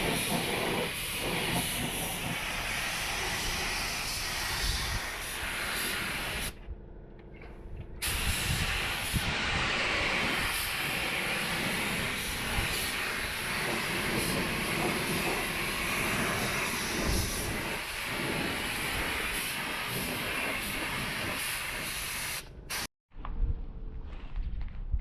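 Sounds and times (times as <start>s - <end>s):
steady hiss: 0.0s - 6.5s, 8.0s - 22.9s.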